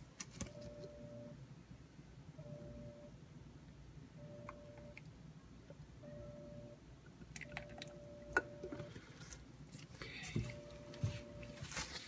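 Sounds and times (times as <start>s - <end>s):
faint steady tone: 0.5s - 11.8s.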